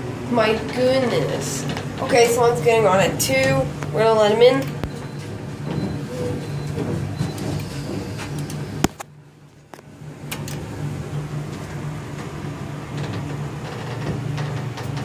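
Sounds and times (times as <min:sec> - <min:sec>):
elevator doors sliding open: 0:00.0 - 0:09.0, 0:10.1 - 0:15.0
ventilation fan hum: 0:00.0 - 0:15.0.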